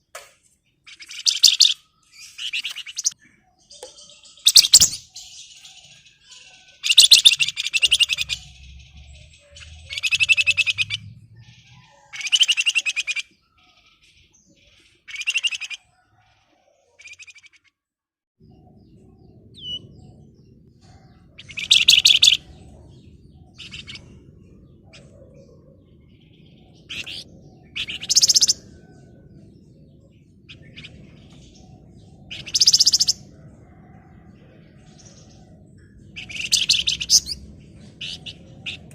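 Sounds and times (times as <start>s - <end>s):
songbird singing rattling trills: 0.4s - 17.6s, 18.4s - 38.9s.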